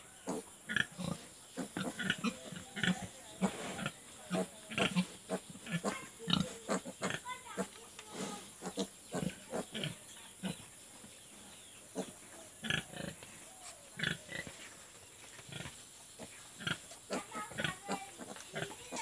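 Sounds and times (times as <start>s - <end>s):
pigs grunting and squealing: 0.2s - 10.7s, 11.9s - 14.6s, 15.5s - 19.0s.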